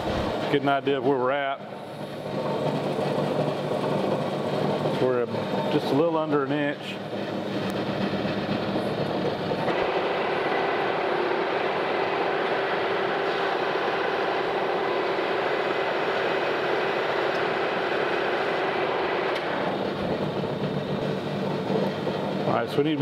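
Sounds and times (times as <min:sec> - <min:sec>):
metal lathe turning: 0:00.0 - 0:23.0
steady machine tone: 0:00.0 - 0:23.0.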